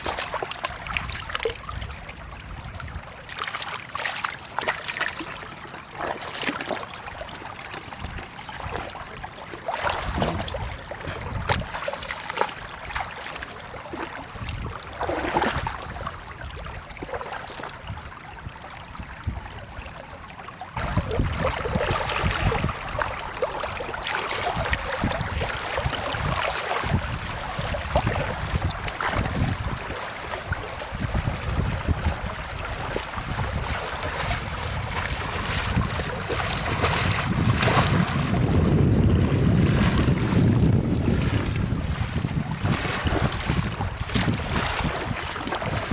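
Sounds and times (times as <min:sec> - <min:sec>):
floodwater trickling and splashing: 0:00.0 - 0:45.9.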